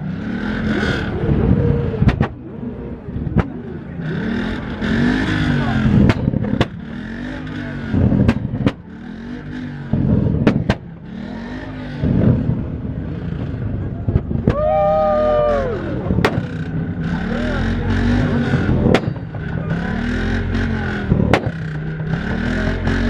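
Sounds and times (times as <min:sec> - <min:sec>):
car engine revving: 0:00.0 - 0:23.0
exhaust cracks: 0:00.0 - 0:23.0.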